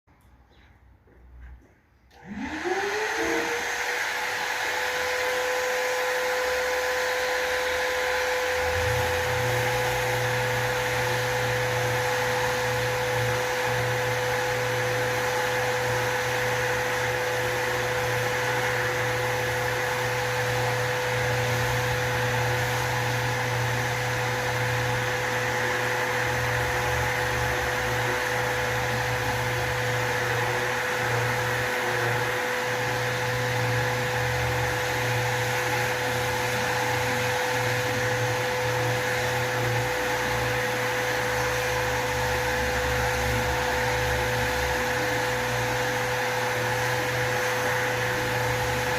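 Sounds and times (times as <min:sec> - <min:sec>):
orbital sander whining: 0:02.2 - 0:48.9.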